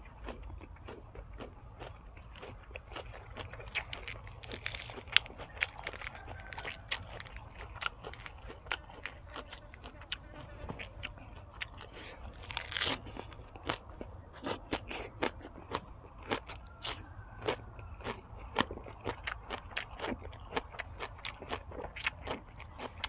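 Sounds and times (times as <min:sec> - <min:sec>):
person chewing crunchy food: 0:00.0 - 0:23.0.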